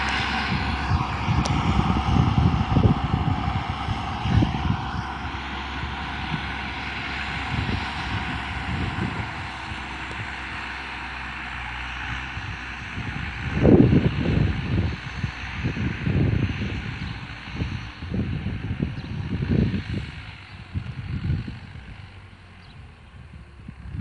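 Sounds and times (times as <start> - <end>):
diesel engine running: 0.0 - 24.0
wind buffeting microphone: 0.0 - 24.0.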